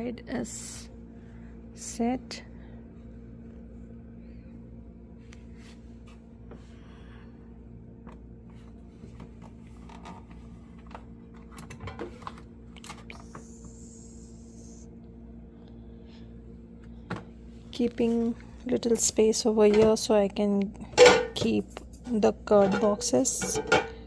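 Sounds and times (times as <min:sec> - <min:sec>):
refrigerator hum: 0:00.0 - 0:24.0.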